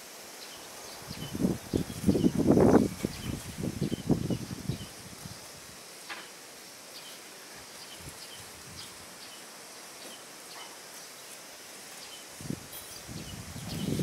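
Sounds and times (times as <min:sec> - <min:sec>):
leafy vines rustling: 0:00.0 - 0:14.0
steady high hiss: 0:00.0 - 0:14.0.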